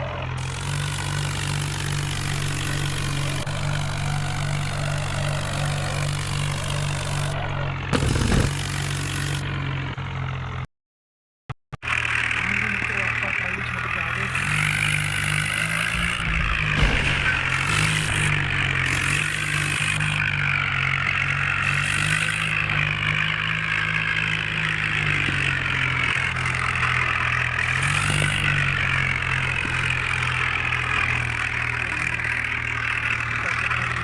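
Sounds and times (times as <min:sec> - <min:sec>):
tractor diesel engine running: 0:00.0 - 0:10.6, 0:11.8 - 0:34.0.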